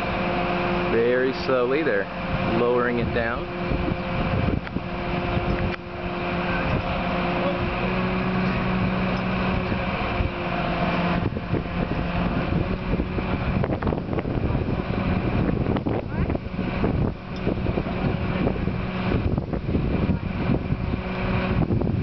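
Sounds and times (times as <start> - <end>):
crane engine running: 0.0 - 22.0.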